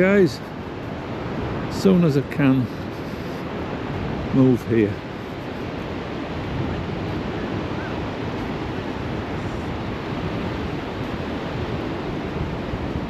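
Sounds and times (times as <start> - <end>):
surf washing onto beach: 0.0 - 13.0
wind on microphone: 0.0 - 13.0.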